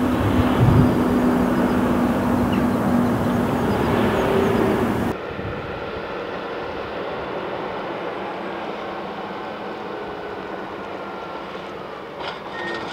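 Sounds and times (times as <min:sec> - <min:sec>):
diesel machinery engine hum: 0:00.0 - 0:12.9.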